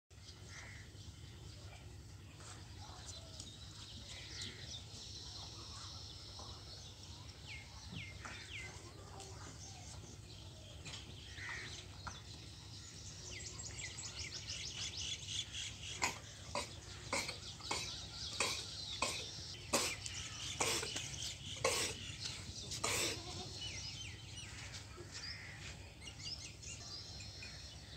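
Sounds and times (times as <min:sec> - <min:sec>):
small birds chirping: 0:00.1 - 0:27.9.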